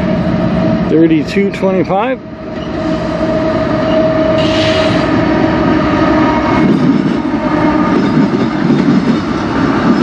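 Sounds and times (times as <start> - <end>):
diesel locomotives passing: 0.0 - 10.0.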